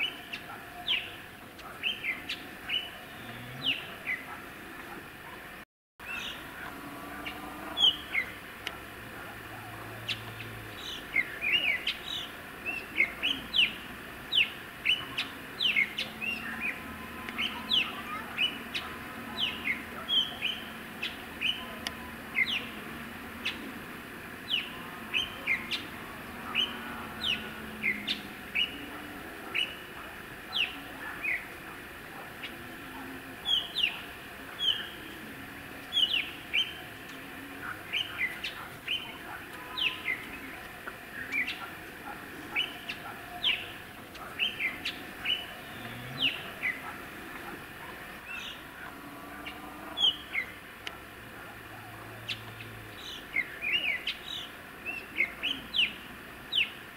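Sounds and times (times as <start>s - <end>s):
birds chirping: 0.0s - 56.9s
outdoor background: 0.0s - 56.9s.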